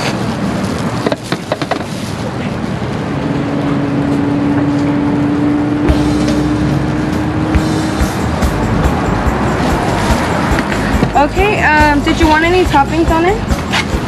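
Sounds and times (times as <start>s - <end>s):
vehicle engine noise: 0.0s - 14.0s
steady hum: 0.2s - 13.5s.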